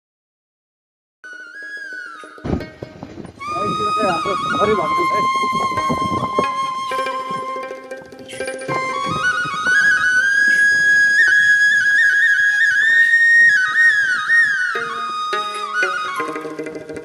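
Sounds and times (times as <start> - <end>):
ornamented instrumental melody: 1.2 - 17.0.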